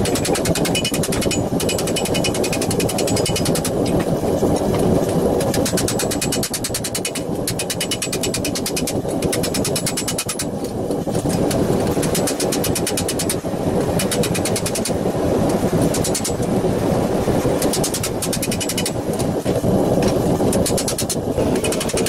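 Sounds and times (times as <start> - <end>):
steady rushing roar: 0.0 - 22.0.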